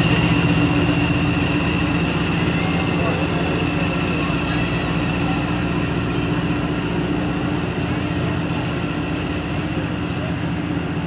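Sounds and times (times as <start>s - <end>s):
locomotive engine running: 0.0s - 11.0s.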